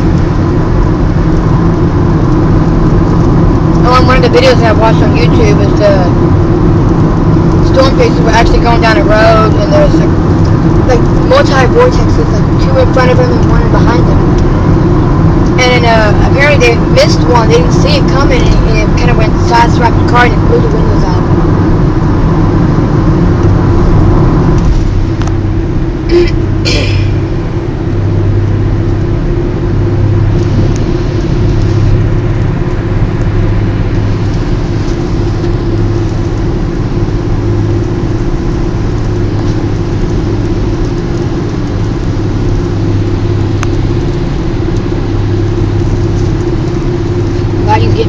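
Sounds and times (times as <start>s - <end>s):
car engine and tyre drone: 0.0s - 48.0s.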